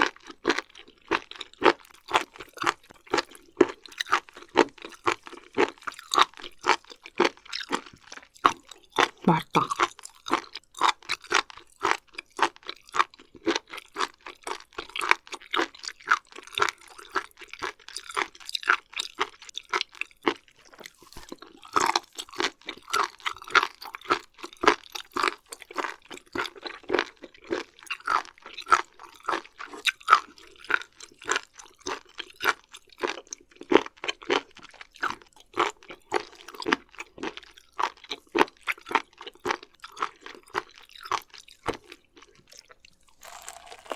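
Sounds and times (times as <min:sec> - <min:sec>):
close chewing clicks and smacks: 0:00.0 - 0:43.9.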